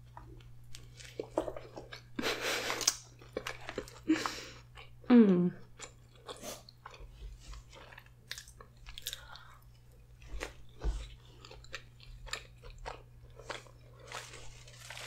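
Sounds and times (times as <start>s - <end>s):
chewing with mouth clicks: 0.1s - 5.0s, 5.6s - 14.4s.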